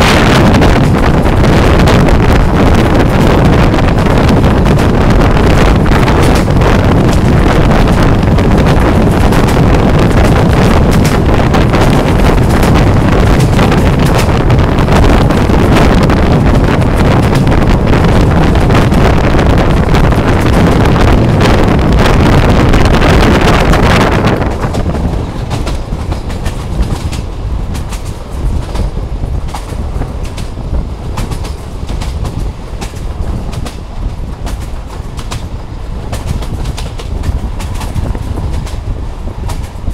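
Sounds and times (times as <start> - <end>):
train rolling noise: 0.0 - 39.9
wind rush on microphone: 0.0 - 39.9
wheels clicking over rail joints: 0.6 - 39.9.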